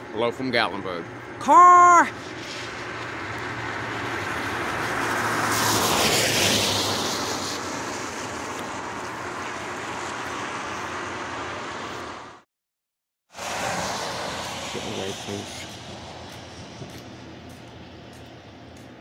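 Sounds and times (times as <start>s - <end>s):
car engine passing: 2.0s - 12.4s, 13.4s - 18.2s
tyres hissing on wet road: 2.2s - 12.4s, 13.3s - 18.9s.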